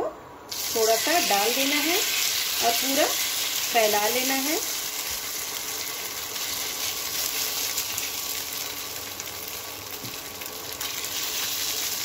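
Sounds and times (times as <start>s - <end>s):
fish frying in hot oil: 0.5s - 12.0s.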